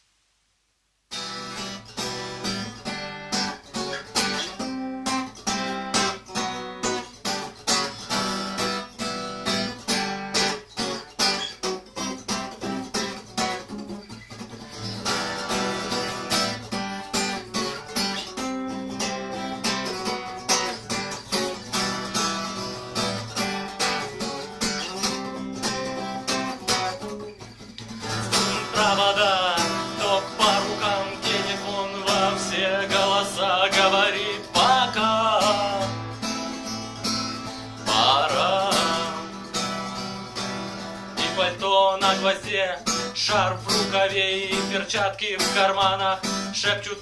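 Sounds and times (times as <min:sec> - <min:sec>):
acoustic guitar strumming chords: 0:01.1 - 0:47.0.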